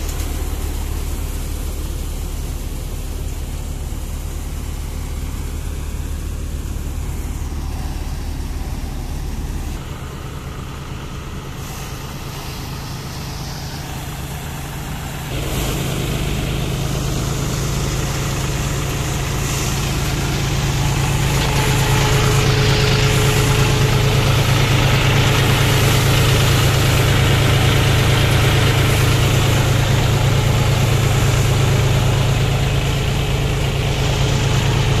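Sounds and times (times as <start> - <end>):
threshing machine whirring: 0.0 - 35.0
tractor diesel engine running: 0.0 - 35.0.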